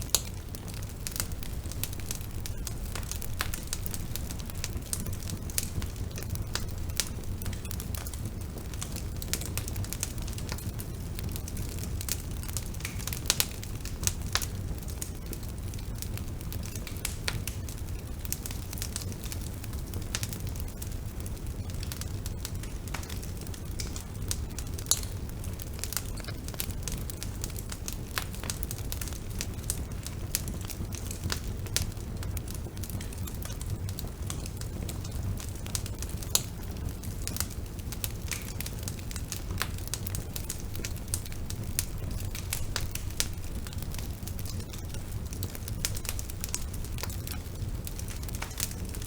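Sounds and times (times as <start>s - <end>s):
burning wood crackling and popping: 0.0s - 49.0s
flames rumbling: 0.0s - 49.0s.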